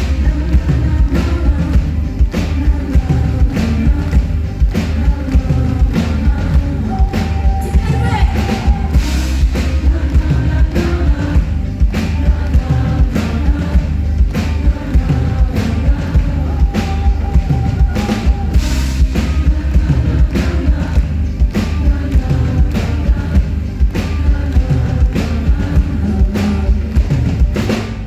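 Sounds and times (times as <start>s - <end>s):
drum kit beat: 0.0s - 28.0s
live rock band playing: 0.0s - 28.0s
person singing: 0.0s - 28.0s.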